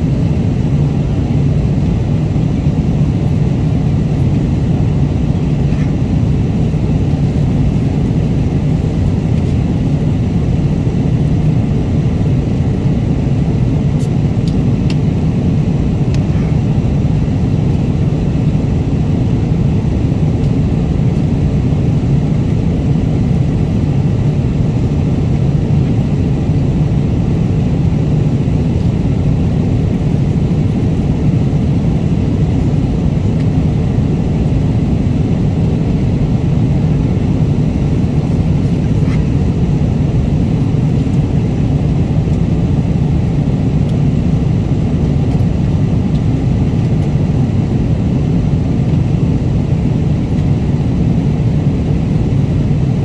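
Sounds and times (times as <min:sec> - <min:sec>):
airliner cabin noise: 0:00.0 - 0:53.0.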